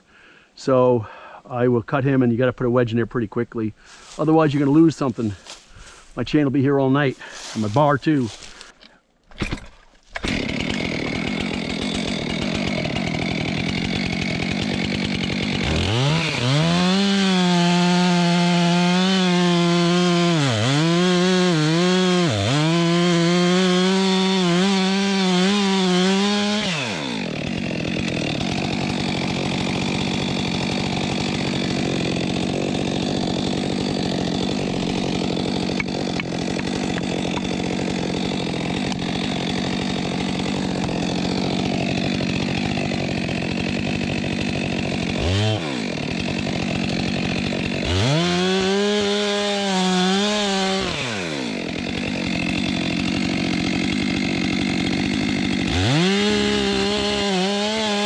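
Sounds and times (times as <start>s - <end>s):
chainsaw idling and revving: 4.0s - 6.0s, 7.2s - 8.8s, 10.2s - 58.0s.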